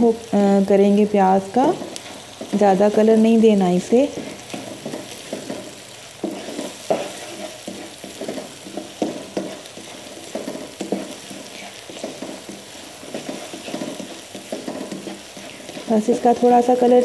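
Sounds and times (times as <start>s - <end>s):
onions sizzling in oil: 0.0s - 17.0s
spatula scraping a pan: 1.4s - 17.0s.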